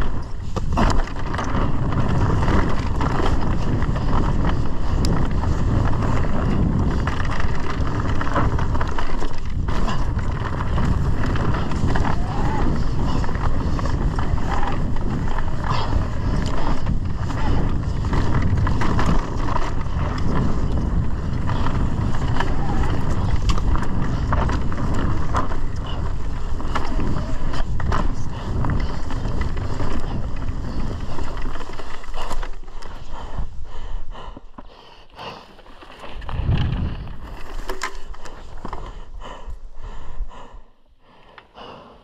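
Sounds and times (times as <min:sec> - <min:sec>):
wind buffeting microphone: 0:00.0 - 0:34.6, 0:35.7 - 0:40.7
bike tyre roar: 0:00.0 - 0:40.6.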